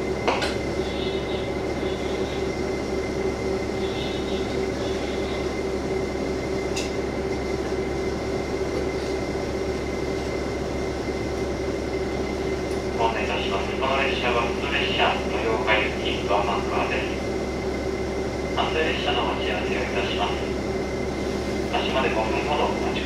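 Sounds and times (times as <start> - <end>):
diesel railcar engine droning: 0.0 - 23.0.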